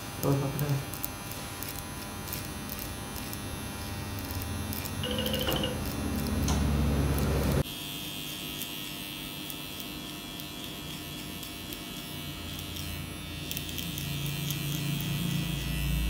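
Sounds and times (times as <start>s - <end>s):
hair clipper buzzing: 0.0s - 16.0s.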